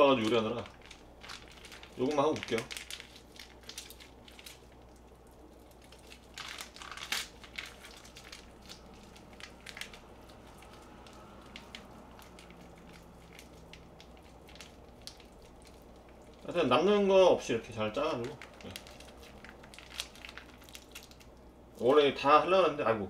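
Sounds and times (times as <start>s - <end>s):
plastic pouch crinkling: 0.0s - 17.0s, 17.8s - 21.9s.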